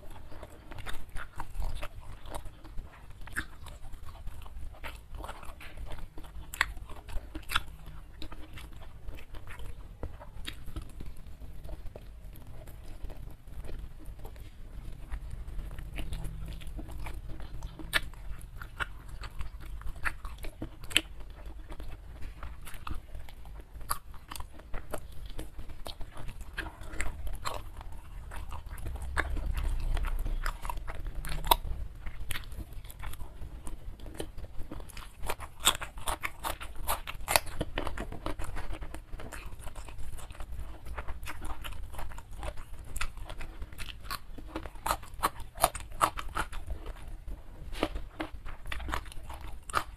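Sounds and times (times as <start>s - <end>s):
wet chewing and mouth clicks: 0.0s - 49.9s.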